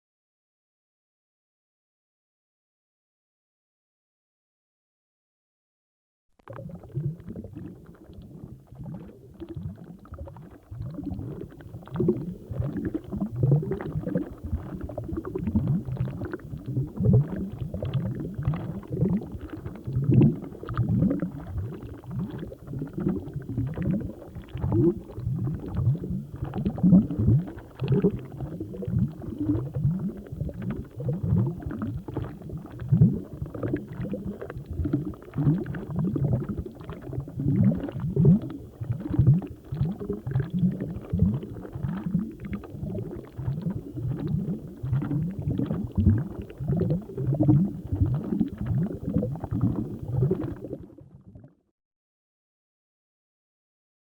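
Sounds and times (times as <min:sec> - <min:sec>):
water bubbling: 0:06.5 - 0:51.5.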